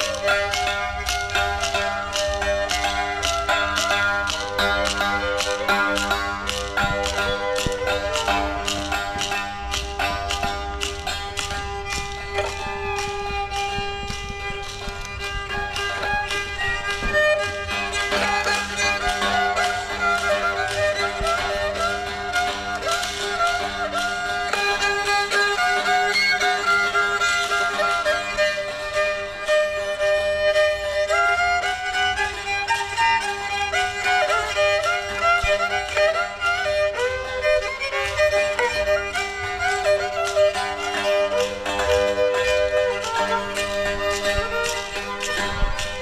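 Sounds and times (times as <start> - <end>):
sliding instrumental melody: 0.0 - 46.0.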